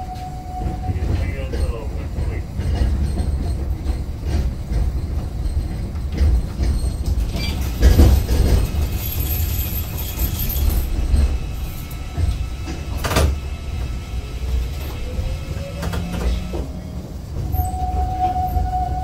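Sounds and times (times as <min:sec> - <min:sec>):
train wheels rumbling: 0:00.0 - 0:19.0
clacks over rail joints: 0:00.5 - 0:18.8.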